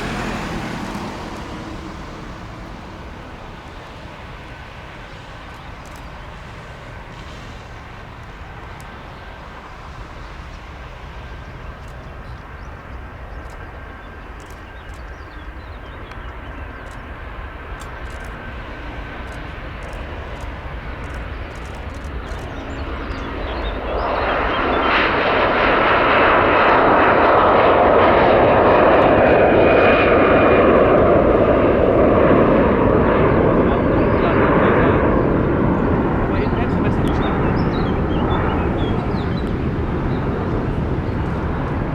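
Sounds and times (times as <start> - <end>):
jet airliner engines roaring: 0.0 - 41.9
thin engine whine: 0.0 - 41.9.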